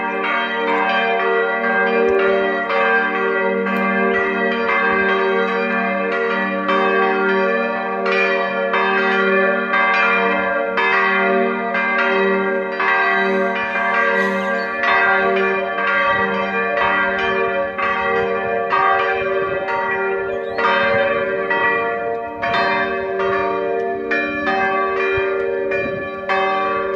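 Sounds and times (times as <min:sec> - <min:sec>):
church bells ringing: 0:00.0 - 0:26.9.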